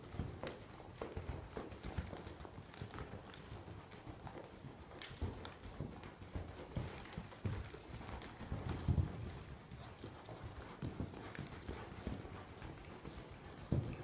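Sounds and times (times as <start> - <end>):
horse hoofbeats: 0.0 - 14.0.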